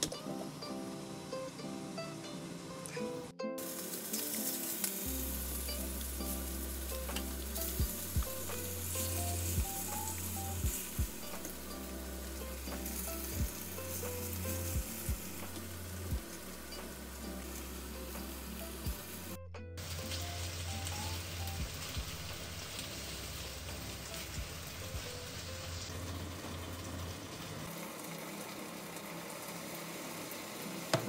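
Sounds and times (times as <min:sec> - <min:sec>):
meat sizzling in hot oil: 0:03.6 - 0:31.0.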